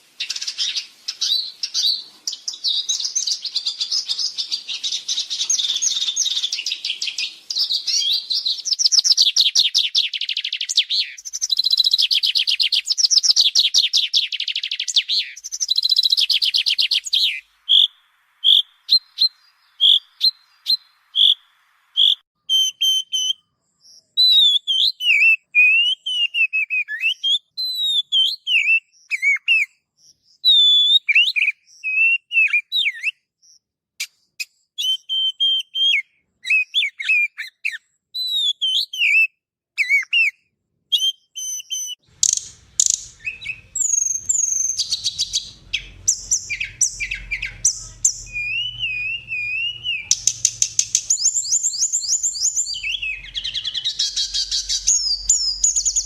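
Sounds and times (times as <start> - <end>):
dense bird chirping: 0.0 - 40.3, 40.9 - 56.0
fast repeated bird trill: 0.2 - 33.2, 41.0 - 56.0
songbird whistled phrases: 0.2 - 34.1, 34.8 - 56.0.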